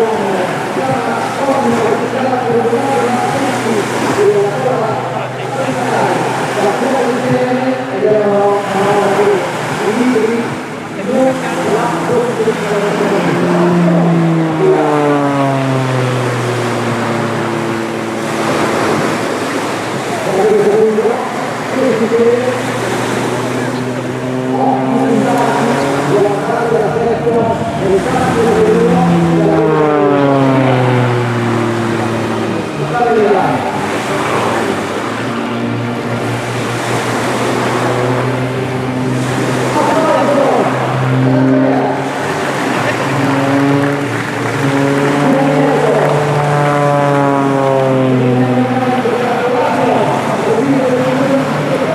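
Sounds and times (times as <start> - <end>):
propeller plane flying past: 0.0 - 51.9.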